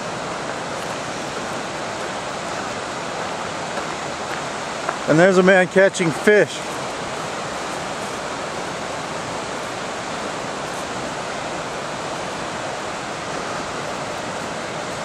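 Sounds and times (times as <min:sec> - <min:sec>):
river white water rushing: 0:00.0 - 0:15.0.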